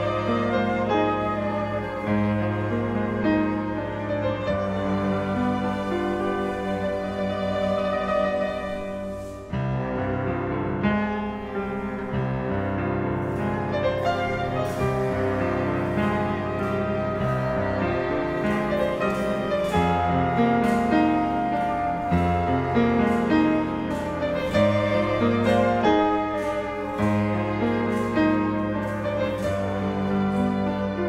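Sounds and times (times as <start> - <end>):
bowed string notes: 0.0 - 31.0
piano chords: 0.0 - 31.0.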